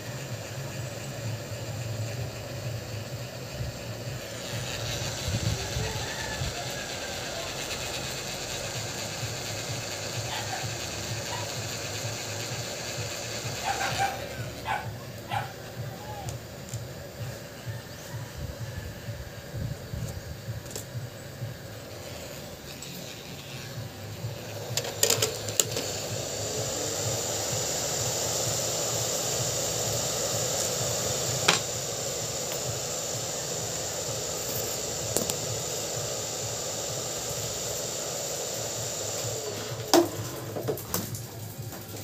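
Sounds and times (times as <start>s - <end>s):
blown air hissing: 0.0s - 42.0s.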